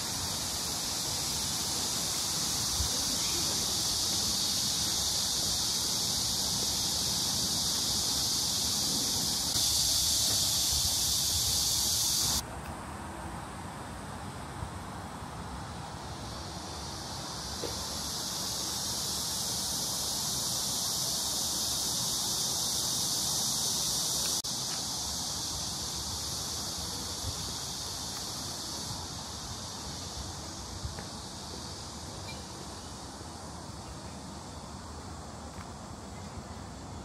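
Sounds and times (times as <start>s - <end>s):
insects shrill hiss: 0.0s - 37.0s.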